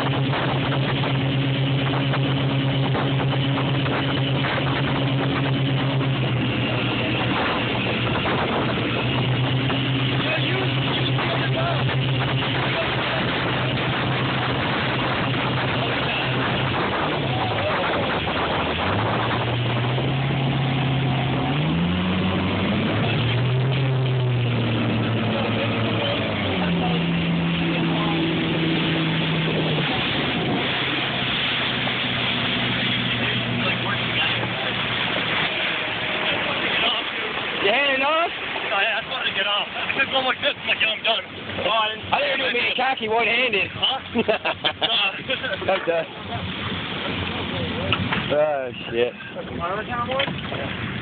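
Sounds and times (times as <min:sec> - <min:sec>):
rushing noise: 0:00.0 - 0:43.5
motorboat engine hum: 0:00.0 - 0:51.0.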